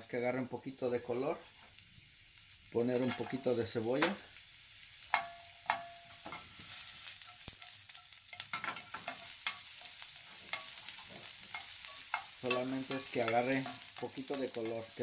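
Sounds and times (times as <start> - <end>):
garlic and onion sizzling in oil: 0.0 - 15.0.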